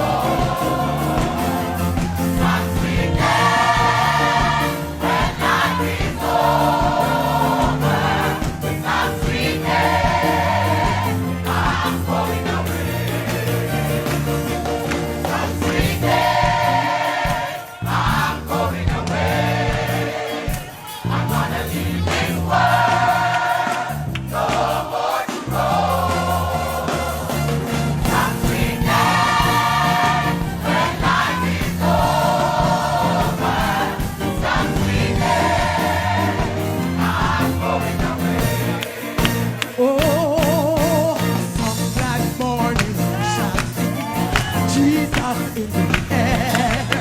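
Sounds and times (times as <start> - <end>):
gospel choir singing: 0.0 - 47.0.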